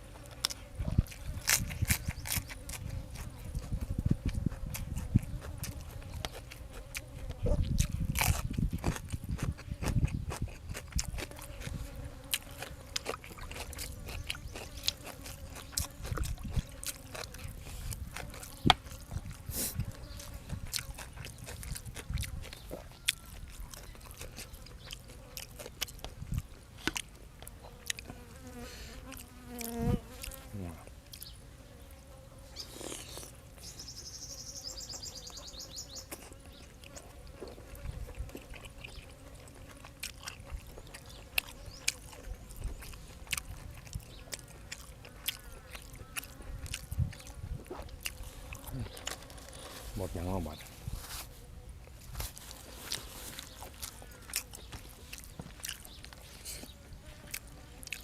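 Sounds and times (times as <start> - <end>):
chewing and slurping: 0.0 - 30.4, 32.6 - 33.7, 36.0 - 50.0, 51.8 - 58.0
crunching vegetables: 0.0 - 31.4, 32.6 - 33.8, 36.0 - 58.0.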